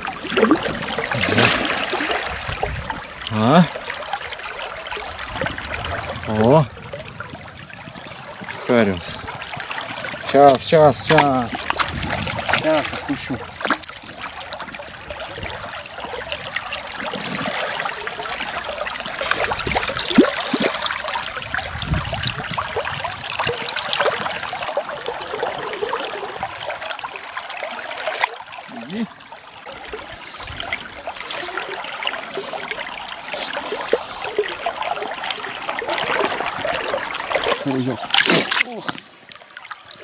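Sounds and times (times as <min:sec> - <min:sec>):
river water trickling: 0:00.0 - 0:40.0
water splashes: 0:00.0 - 0:40.0.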